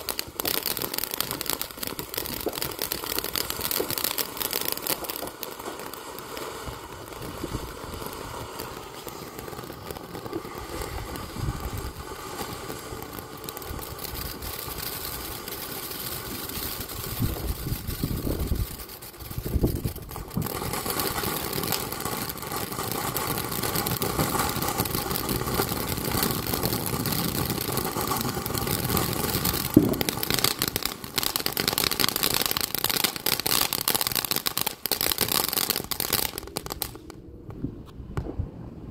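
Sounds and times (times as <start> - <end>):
firework fountain hissing: 0.0 - 37.2
firework crackling: 0.0 - 38.9.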